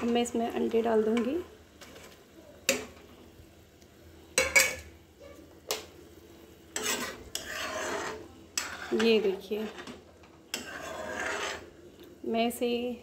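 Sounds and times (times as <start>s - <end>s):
metal spoon stirring in pan: 0.0s - 3.4s, 4.2s - 12.8s
spoon scraping pan: 0.0s - 3.4s, 4.3s - 5.0s, 5.7s - 12.2s.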